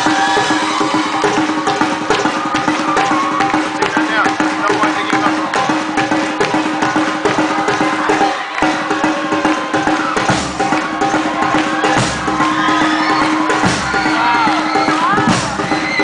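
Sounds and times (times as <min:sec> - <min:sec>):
samba drum ensemble: 0:00.0 - 0:16.0
sharp wood-block strikes: 0:00.0 - 0:16.0.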